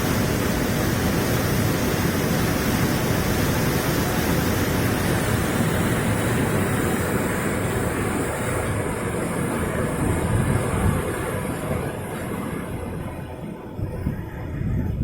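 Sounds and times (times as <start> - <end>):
floodwater rushing: 0.0 - 14.6.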